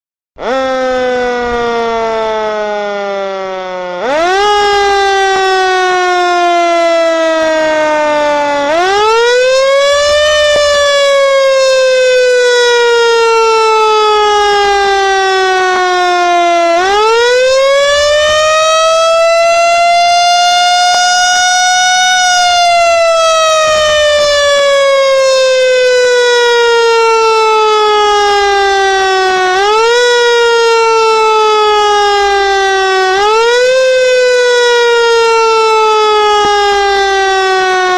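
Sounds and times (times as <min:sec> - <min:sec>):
fire truck siren wailing: 0:00.4 - 0:37.9.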